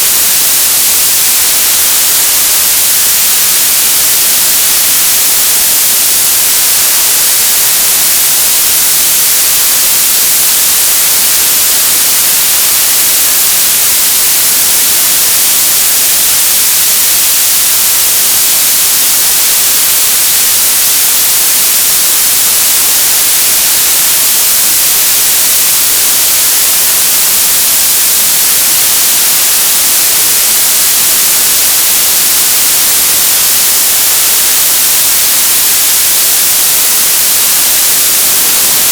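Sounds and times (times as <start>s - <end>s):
television static hiss: 0.0s - 38.9s.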